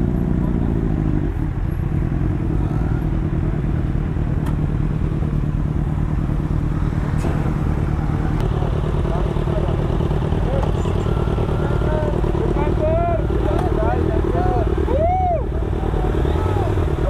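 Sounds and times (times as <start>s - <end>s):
motorcycle engine at low revs: 0.0s - 14.9s, 15.5s - 17.0s.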